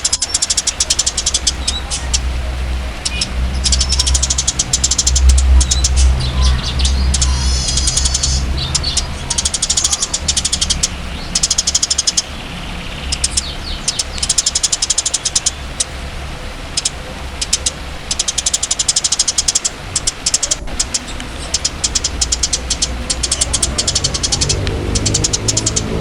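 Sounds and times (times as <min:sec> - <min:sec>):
songbird singing trills: 0:00.0 - 0:16.0, 0:16.6 - 0:26.0.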